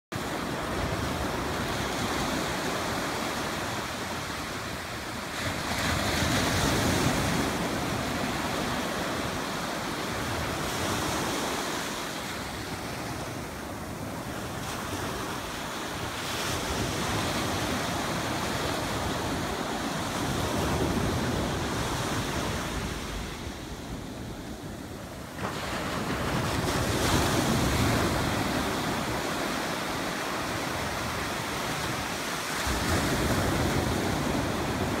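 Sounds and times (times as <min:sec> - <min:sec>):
surf breaking on beach: 0:00.2 - 0:35.0.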